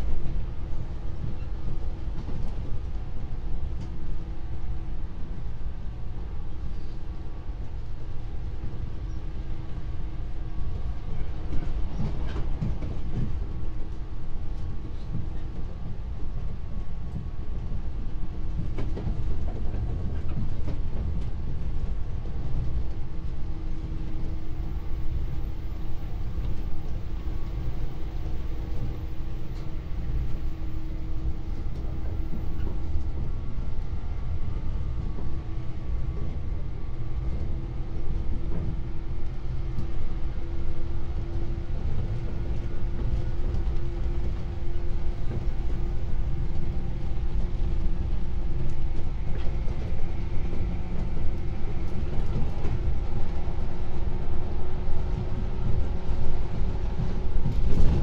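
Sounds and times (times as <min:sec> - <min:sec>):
train wheels rumbling: 0:08.6 - 0:58.0.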